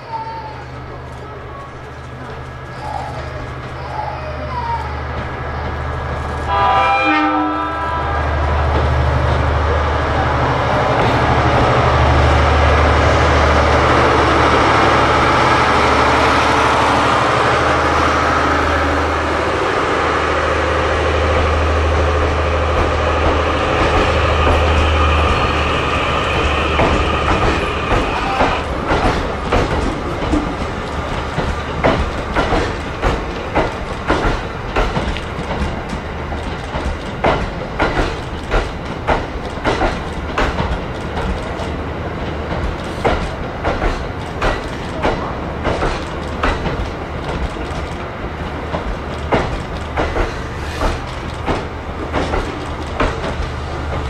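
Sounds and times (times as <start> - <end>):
train wheels clickety-clack: 0.6 - 6.6, 8.4 - 19.9, 20.9 - 54.0.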